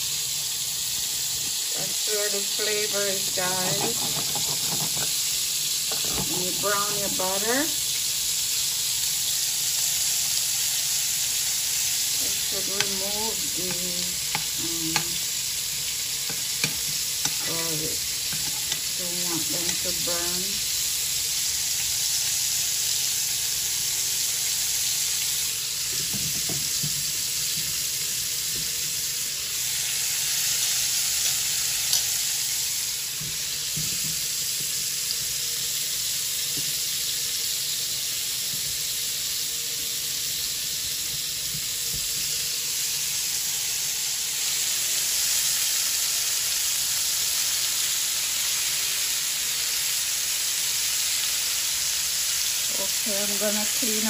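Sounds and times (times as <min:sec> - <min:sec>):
butter sizzling in a frying pan: 0:00.0 - 0:54.0.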